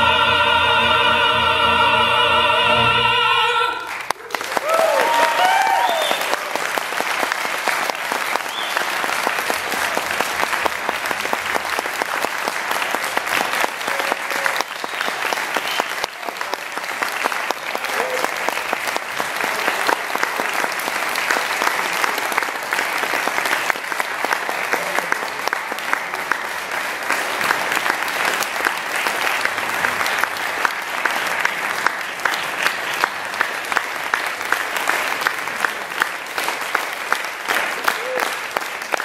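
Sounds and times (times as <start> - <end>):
audience applauding: 3.6 - 39.0
loud close hand claps: 3.9 - 39.0.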